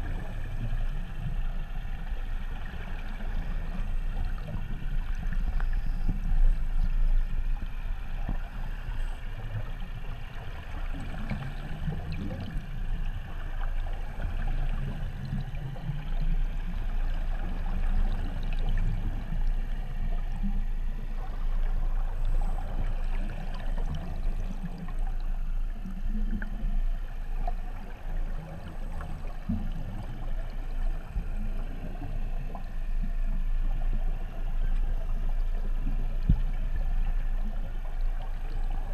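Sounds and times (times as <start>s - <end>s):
underwater bubbling: 0.0s - 38.9s.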